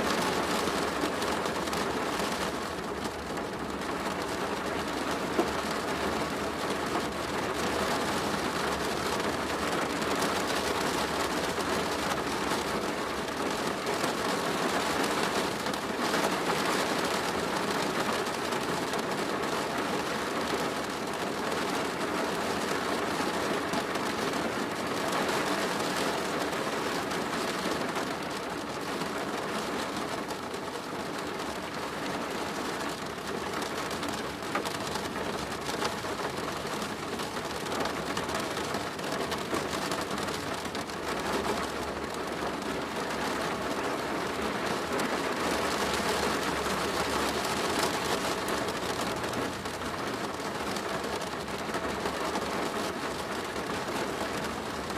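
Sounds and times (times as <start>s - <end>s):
rain drumming on plastic roof: 0.0s - 54.9s.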